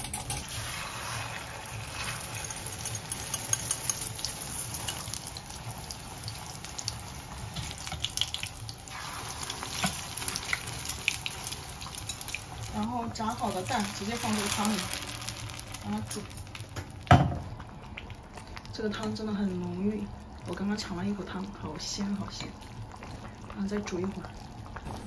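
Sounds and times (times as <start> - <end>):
egg sizzling in hot oil: 0.4 - 25.0
crackles and pops: 1.6 - 25.0.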